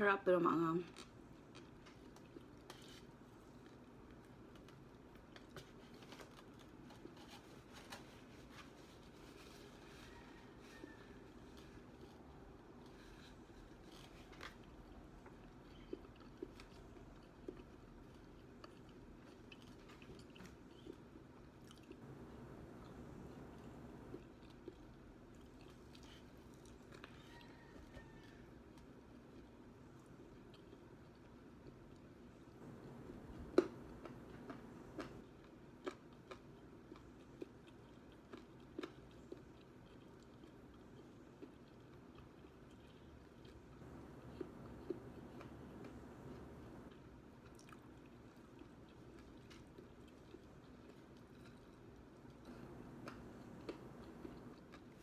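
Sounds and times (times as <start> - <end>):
person chewing fried chicken: 0.9 - 55.0.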